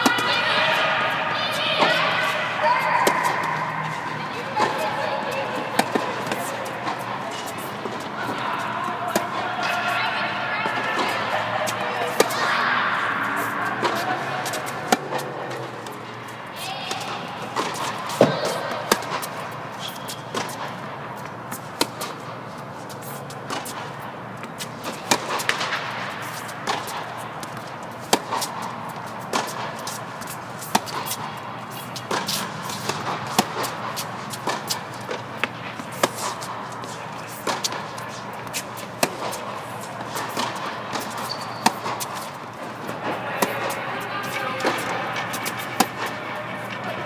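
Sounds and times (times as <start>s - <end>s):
tennis balls struck and bouncing: 0.0s - 46.9s.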